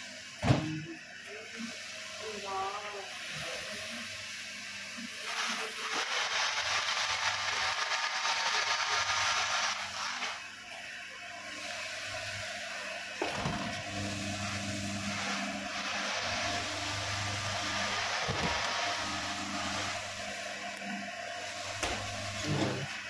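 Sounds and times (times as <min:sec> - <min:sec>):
electric motor hum: 0:01.2 - 0:23.0.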